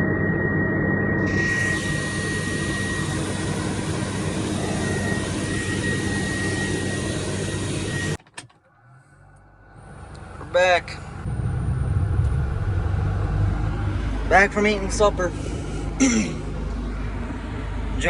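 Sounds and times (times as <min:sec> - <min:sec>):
high-pitched whine: 0:00.0 - 0:08.2, 0:09.2 - 0:18.0
farm machinery engine running: 0:01.2 - 0:18.0.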